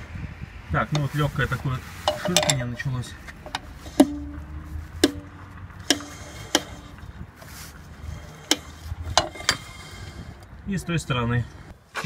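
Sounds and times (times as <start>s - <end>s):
brake shoe scraping drum: 0.8s - 10.5s.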